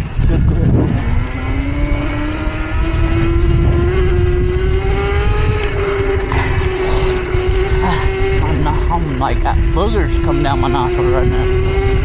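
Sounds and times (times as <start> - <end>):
electric motor whining: 0.0 - 12.0
wind rumble on microphone: 0.0 - 12.0.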